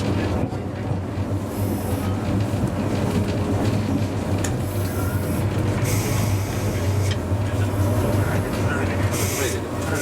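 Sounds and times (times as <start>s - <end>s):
tram motors and wheels rumbling: 0.0s - 10.0s.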